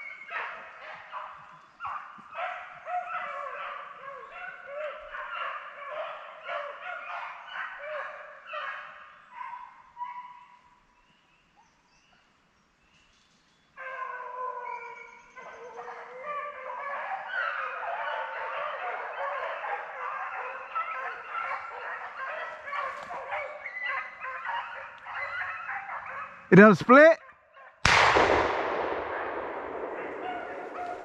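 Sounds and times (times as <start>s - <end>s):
hounds baying: 0.0s - 10.6s, 13.8s - 31.0s.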